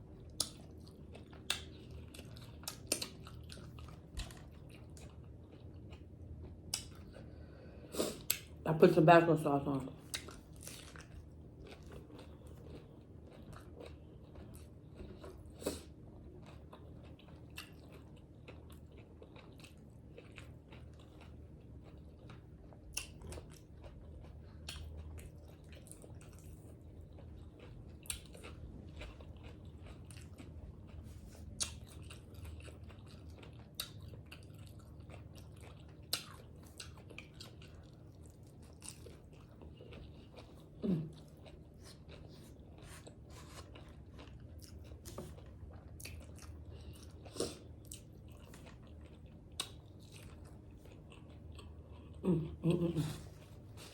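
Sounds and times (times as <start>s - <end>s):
person chewing food: 0.0s - 8.6s, 10.0s - 53.9s.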